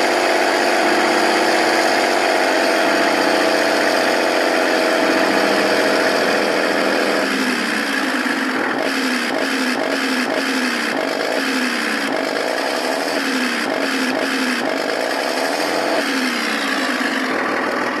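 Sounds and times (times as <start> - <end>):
simulated tank engine through speaker: 0.0 - 18.0.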